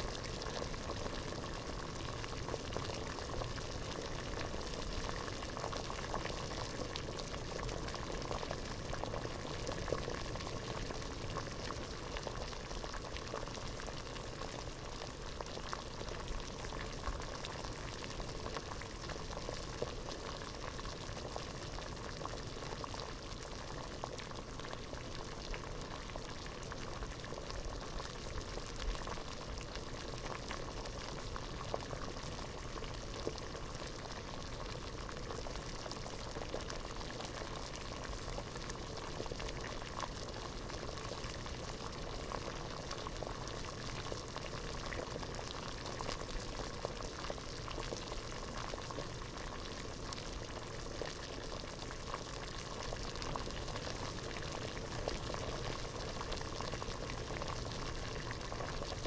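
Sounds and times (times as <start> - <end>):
water boiling in a pot: 0.0 - 59.0.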